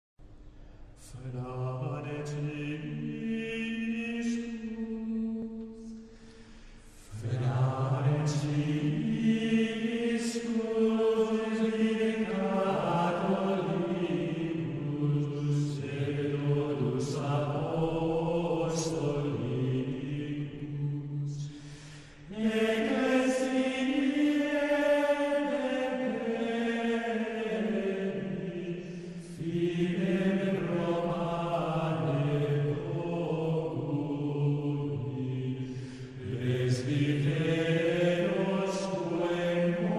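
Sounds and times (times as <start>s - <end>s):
low voices chanting: 7.1s - 39.9s.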